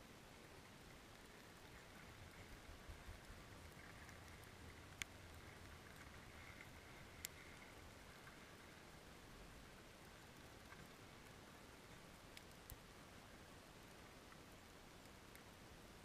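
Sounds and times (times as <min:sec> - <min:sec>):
faint underwater hiss: 0:00.0 - 0:16.0.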